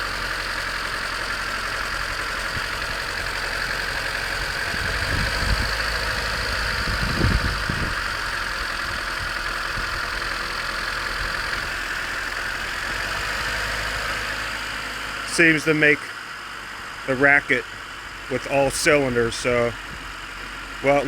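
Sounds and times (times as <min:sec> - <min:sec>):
car engine idling with clatter: 0:00.0 - 0:21.0.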